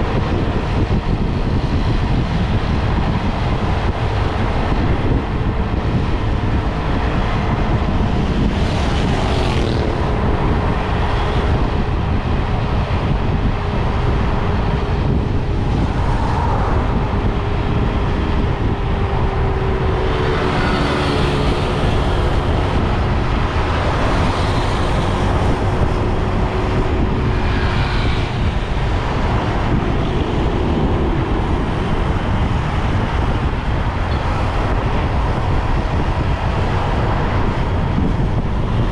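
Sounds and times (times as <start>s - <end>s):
passing traffic: 0.0s - 38.9s
wind rushing over microphone: 0.0s - 38.9s.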